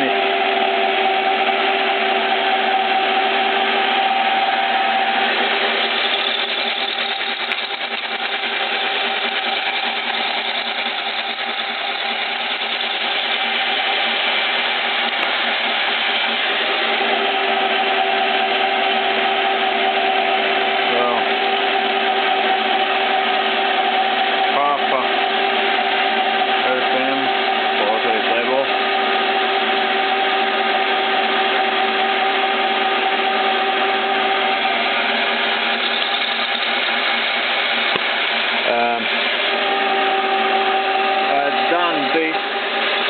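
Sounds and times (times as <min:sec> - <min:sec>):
milling machine cutting steel: 0:00.0 - 0:43.0.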